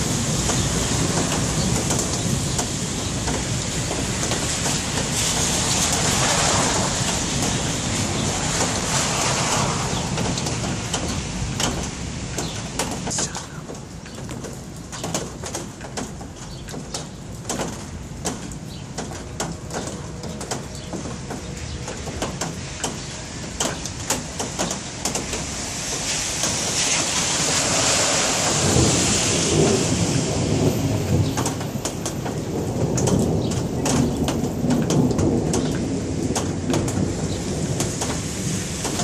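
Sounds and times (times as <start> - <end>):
low thunder rumble: 0.0 - 13.2, 16.0 - 39.0
rain hiss with sharp ticks: 0.0 - 39.0.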